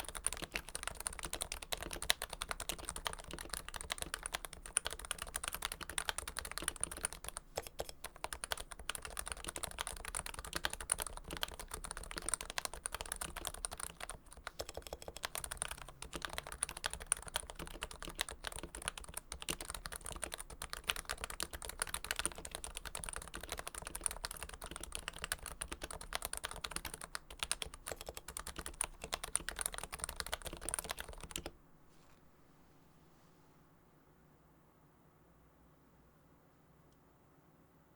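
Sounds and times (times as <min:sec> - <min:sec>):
fast keyboard typing: 0:00.0 - 0:31.6.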